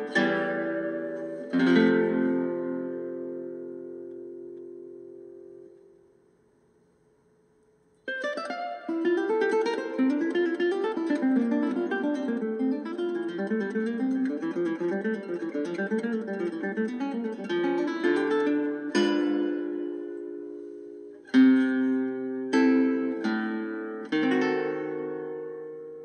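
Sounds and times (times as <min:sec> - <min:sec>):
acoustic guitar strumming and plucking: 0:00.0 - 0:05.9, 0:08.1 - 0:26.0.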